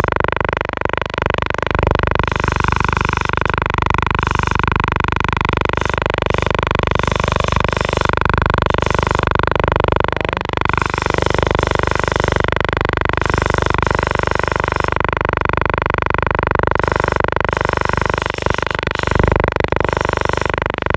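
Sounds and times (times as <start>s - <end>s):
gimbal motors buzzing: 0.0s - 20.9s.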